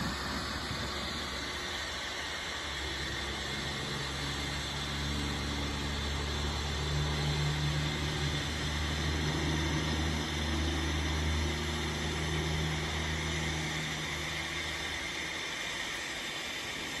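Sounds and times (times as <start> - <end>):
even hiss: 0.0 - 17.0
low mechanical hum: 0.0 - 17.0.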